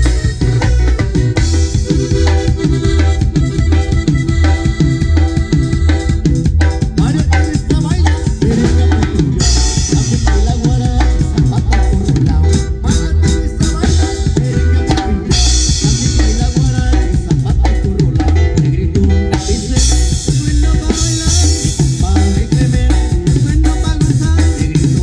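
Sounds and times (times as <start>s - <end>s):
band music: 0.0s - 25.0s
bass drum beat: 0.0s - 25.0s.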